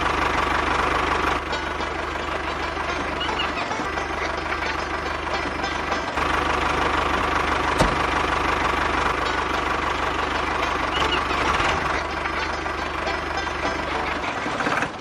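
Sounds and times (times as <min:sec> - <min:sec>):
motor running with pulsing rhythm: 0:00.0 - 0:15.0.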